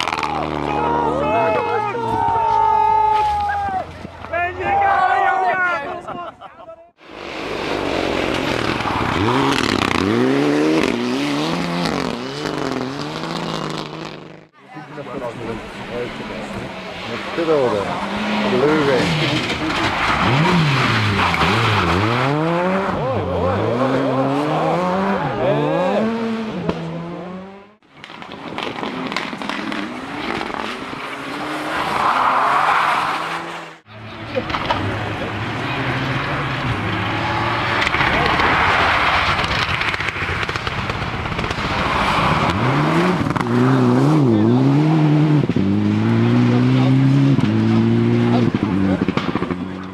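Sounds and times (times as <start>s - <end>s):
road and tyre noise: 0.0s - 49.9s
rally car engine accelerating: 7.1s - 14.5s, 15.2s - 49.9s.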